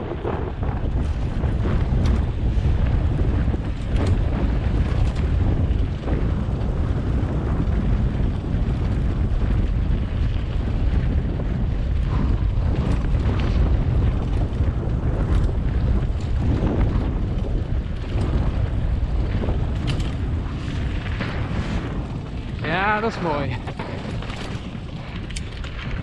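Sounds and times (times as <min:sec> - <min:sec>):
bike tyres rumbling on dirt: 0:00.0 - 0:26.0
wind on microphone: 0:00.0 - 0:26.0.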